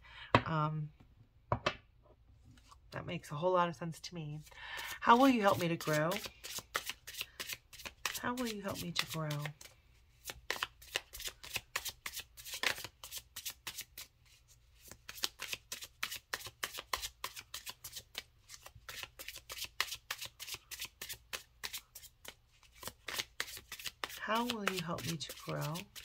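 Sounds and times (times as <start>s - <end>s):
cards being shuffled: 4.8s - 26.0s.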